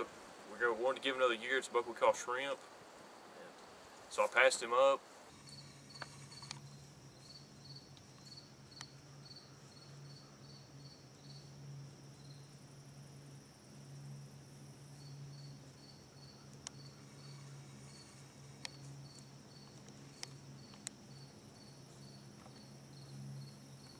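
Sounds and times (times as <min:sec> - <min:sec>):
insect chirping: 0:00.0 - 0:23.9
low steady hum: 0:00.0 - 0:23.9.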